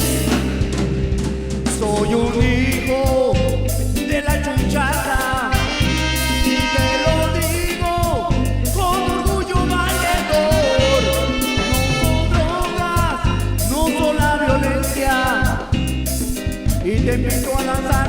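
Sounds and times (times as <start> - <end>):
bass and percussion beat: 0.0 - 18.0
sliding lead melody: 0.0 - 18.0.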